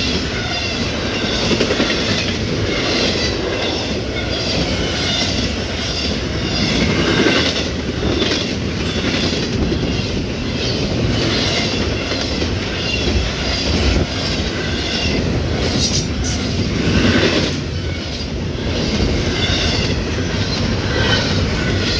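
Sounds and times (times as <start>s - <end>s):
freight train wheels rumbling: 0.0s - 21.9s.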